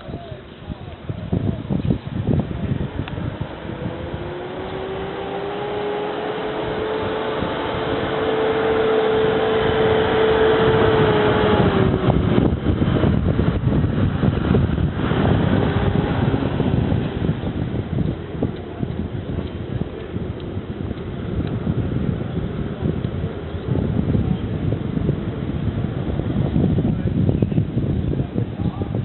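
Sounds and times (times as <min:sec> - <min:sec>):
motor hum: 0:00.0 - 0:27.8
rumbling and crackling noise: 0:00.0 - 0:29.0.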